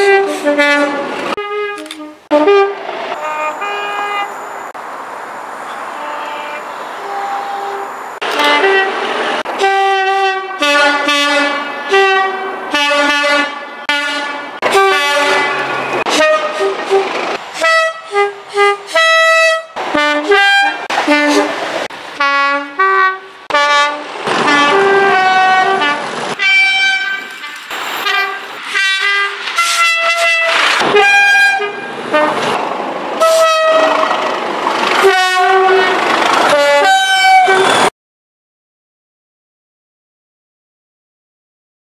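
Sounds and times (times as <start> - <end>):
two-tone locomotive horn blasts: 0.0 - 4.7, 5.7 - 32.6, 33.2 - 34.3, 35.0 - 37.9
passing train noise: 0.0 - 37.9.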